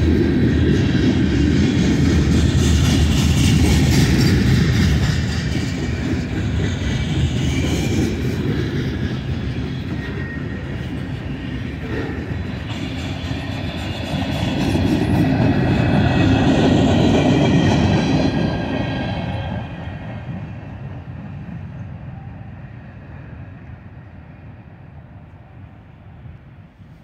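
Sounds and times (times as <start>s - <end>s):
freight train rumbling past: 0.0s - 27.0s.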